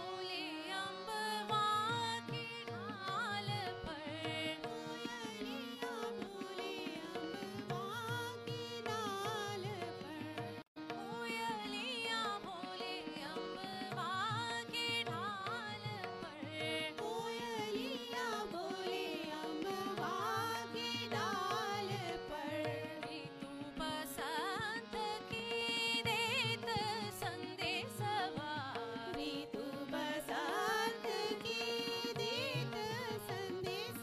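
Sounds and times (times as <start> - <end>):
women singing duet: 0.0 - 34.0.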